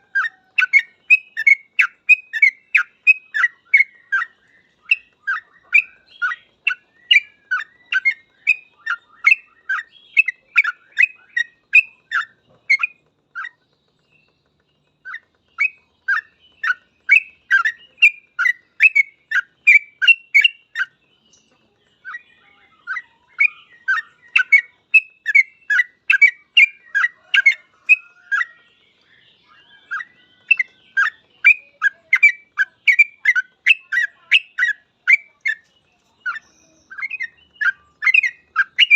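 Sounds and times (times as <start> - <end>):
bird singing rapid sharp notes: 0.0 - 38.9.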